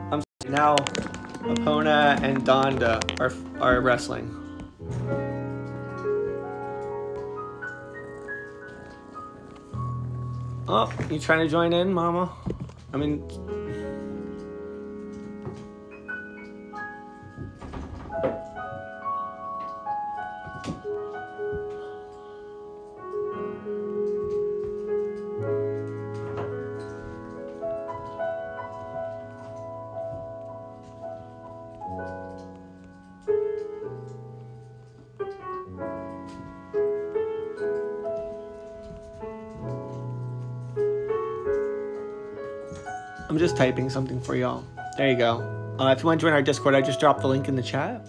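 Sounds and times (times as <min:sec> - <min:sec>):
gentle piano music: 0:00.0 - 0:48.0.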